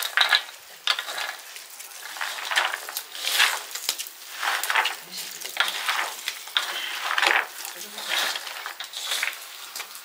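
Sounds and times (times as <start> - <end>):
hands mixing food in metal bowl: 0.0 - 10.0.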